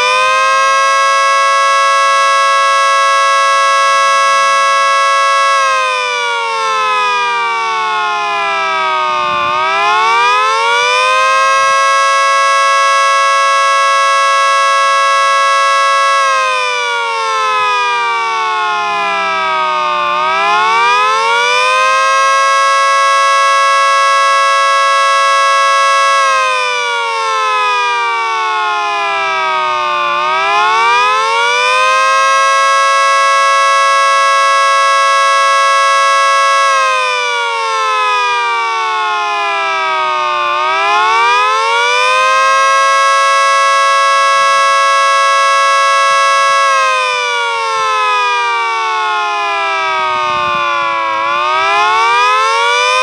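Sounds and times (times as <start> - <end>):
three-tone siren: 0.0 - 53.0.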